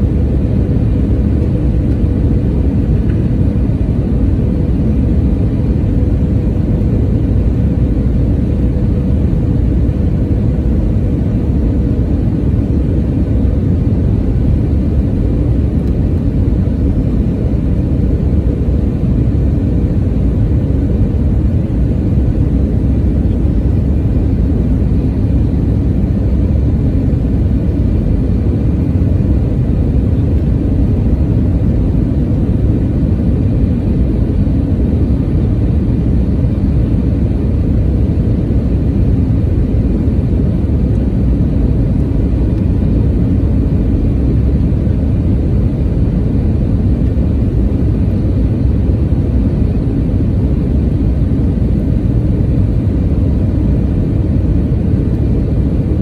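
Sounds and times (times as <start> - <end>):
airflow over airframe: 0.0 - 56.0
jet engine roar: 0.0 - 56.0.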